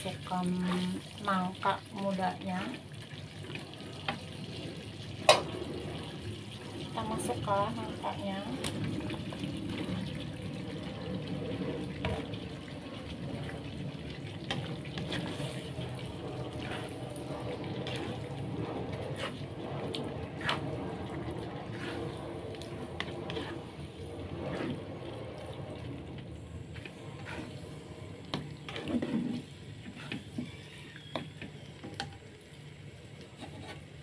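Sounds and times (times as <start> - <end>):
wet sloshing in a pot: 0.0 - 32.6.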